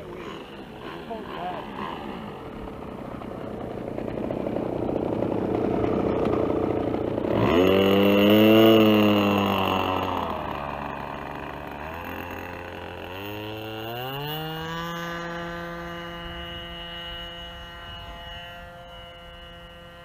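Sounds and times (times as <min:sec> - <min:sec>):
model aircraft engine and propeller: 0:00.0 - 0:20.0.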